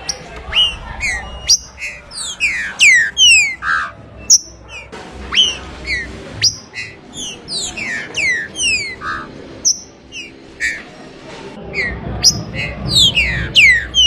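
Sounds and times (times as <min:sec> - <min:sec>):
bird whistled song: 0:00.0 - 0:10.9, 0:11.7 - 0:14.0.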